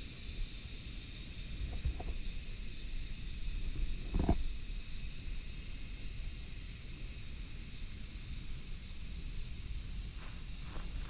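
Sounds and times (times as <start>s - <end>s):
high-pitched insect chorus: 0.0s - 11.0s
light wind rumble: 0.2s - 11.0s.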